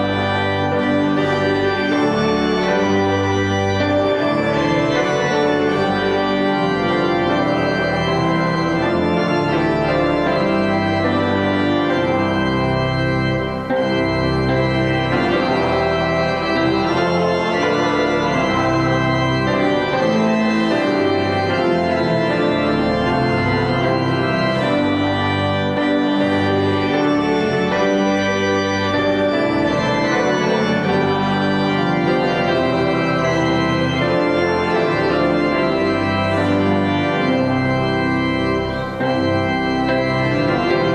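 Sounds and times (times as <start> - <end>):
church organ playing chords: 0.0 - 40.9.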